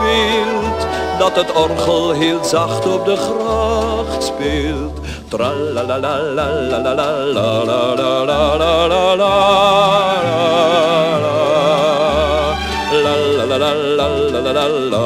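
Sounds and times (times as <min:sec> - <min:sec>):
bass notes: 0:00.0 - 0:15.0
man singing: 0:00.0 - 0:15.0
orchestral accompaniment: 0:00.0 - 0:15.0.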